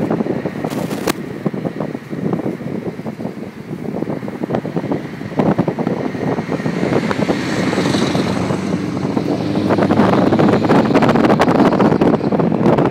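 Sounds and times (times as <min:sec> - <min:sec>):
truck engine rough crackling rumble: 0:00.0 - 0:12.9
wind buffeting microphone: 0:00.0 - 0:12.9.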